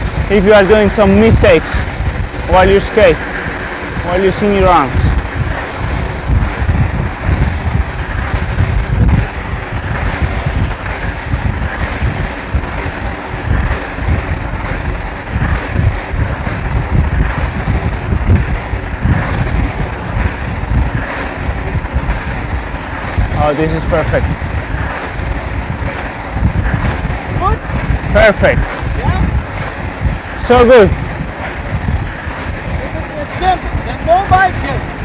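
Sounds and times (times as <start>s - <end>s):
vehicle engine and road rumble: 0.0s - 35.0s
wind buffeting microphone: 0.0s - 35.0s.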